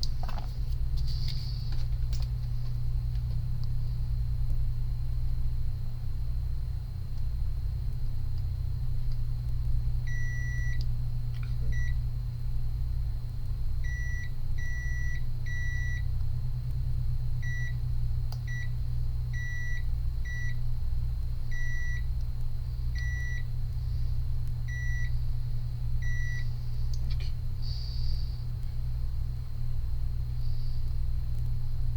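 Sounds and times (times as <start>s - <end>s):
low equipment hum: 0.0s - 31.9s.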